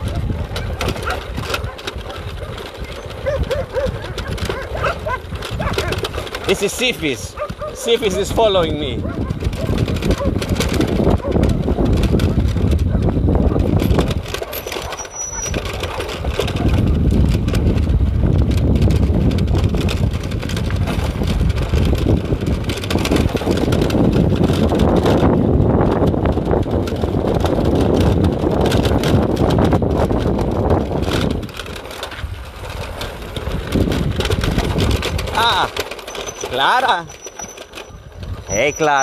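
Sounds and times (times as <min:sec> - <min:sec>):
knocks and jolts from bumps: 0:00.0 - 0:25.4, 0:26.2 - 0:39.0
vehicle engine running: 0:00.0 - 0:39.0.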